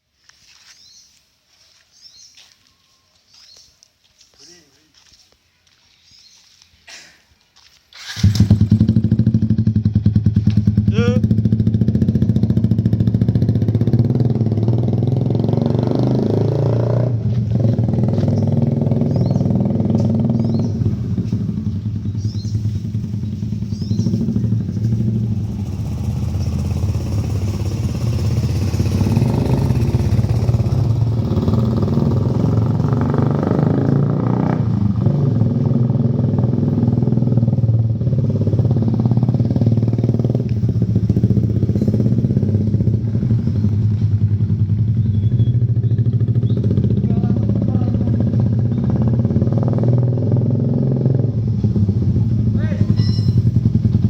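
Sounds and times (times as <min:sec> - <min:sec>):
motorcycle engine running: 0:07.6 - 0:54.0.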